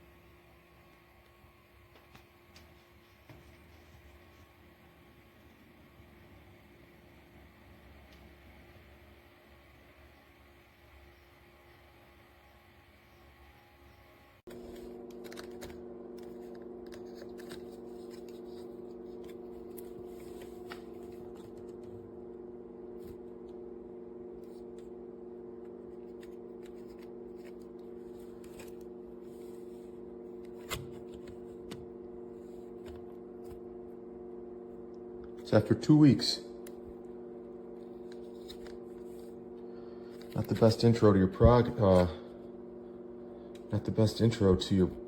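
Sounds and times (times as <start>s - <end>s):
fan humming: 0.0s - 45.0s.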